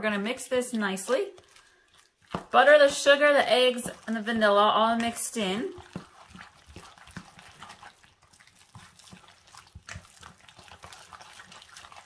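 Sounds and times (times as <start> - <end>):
spoon stirring wet mixture in bowl: 0.4 - 12.0.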